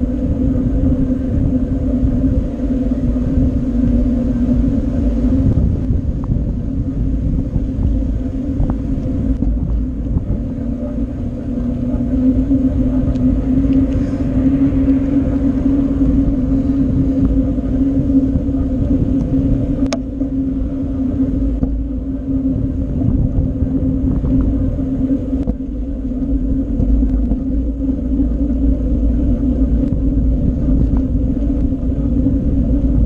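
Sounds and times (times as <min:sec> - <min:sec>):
bike tyres rumbling on road: 0:00.0 - 0:33.0
wind buffeting camera: 0:00.0 - 0:33.0.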